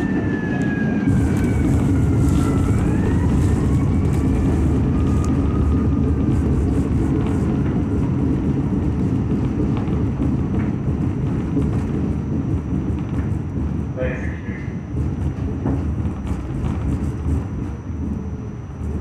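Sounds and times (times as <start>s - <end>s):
subway train rumbling on rails: 0.0s - 19.0s.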